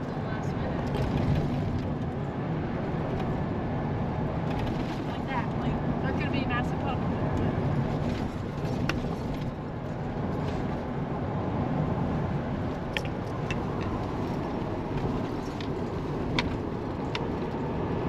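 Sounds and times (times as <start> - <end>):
van engine and road rumble: 0.0 - 18.0.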